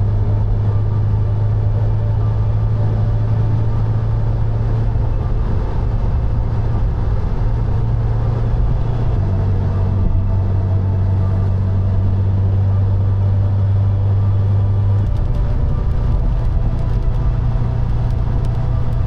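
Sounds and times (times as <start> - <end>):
car engine droning at cruise: 0.0 - 19.0
tyre and road noise: 0.0 - 19.0.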